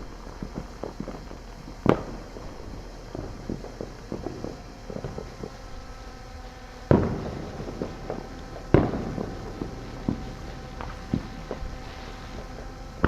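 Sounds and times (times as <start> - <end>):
firework pops and crackles: 0.0 - 13.0
loud firework bangs: 0.0 - 13.0.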